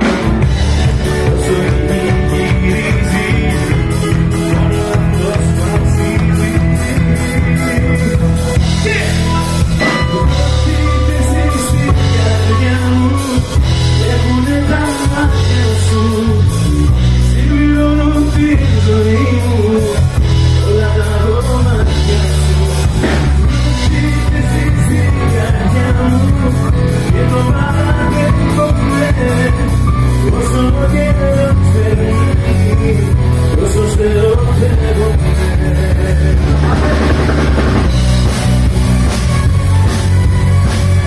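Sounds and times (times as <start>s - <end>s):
male singer's amplified vocals: 0.0s - 37.9s
live band playing: 0.0s - 41.0s.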